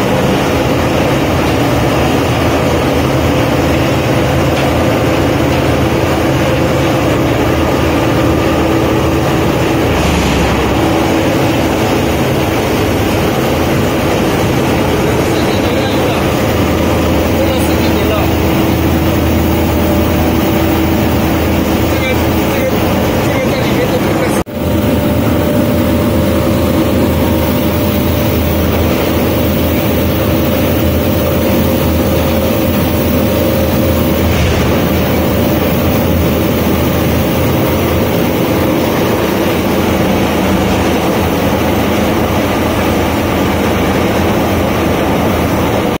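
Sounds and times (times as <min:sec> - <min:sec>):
industrial machine drone: 0:00.0 - 0:46.0.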